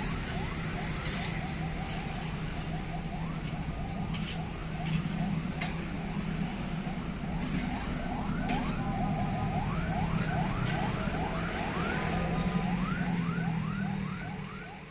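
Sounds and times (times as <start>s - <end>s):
heavy vehicle engine running: 0.0s - 13.8s.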